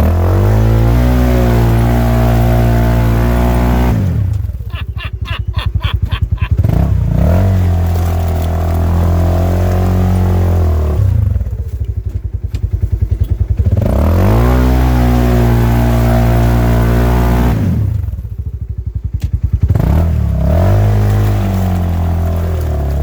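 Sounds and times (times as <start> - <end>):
engine idling and revving: 0.0 - 4.7, 6.5 - 23.0.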